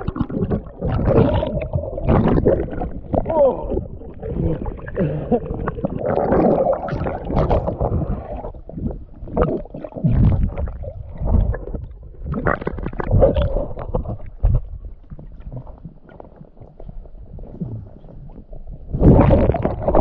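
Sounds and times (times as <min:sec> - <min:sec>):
bubbling: 0:00.0 - 0:20.0
muffled underwater gurgling: 0:00.0 - 0:20.0.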